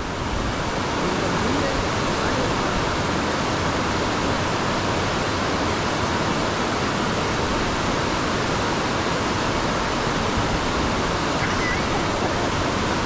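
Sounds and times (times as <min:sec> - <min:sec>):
steady loud rushing noise: 0:00.0 - 0:13.0.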